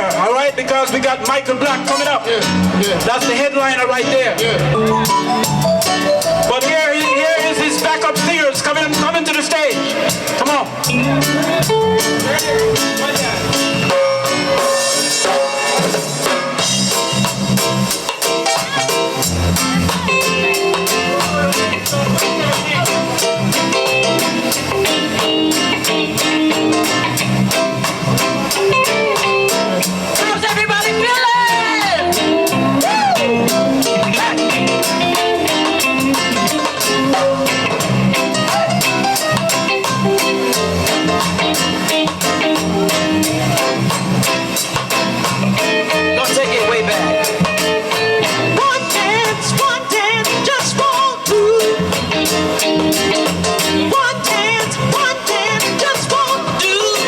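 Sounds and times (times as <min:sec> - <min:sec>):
bass guitar: 0:00.0 - 0:57.0
drum kit beat: 0:00.0 - 0:57.0
guitar: 0:00.0 - 0:57.0
live band playing instrumental: 0:00.0 - 0:57.0.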